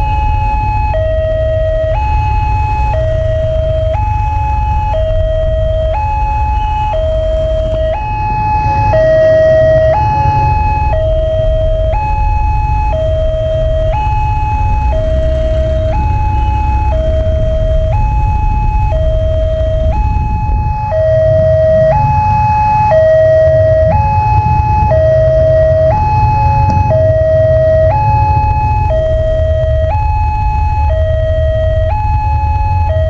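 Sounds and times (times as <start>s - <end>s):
low rumble: 0.0s - 33.0s
two-tone level crossing alarm: 0.0s - 33.0s.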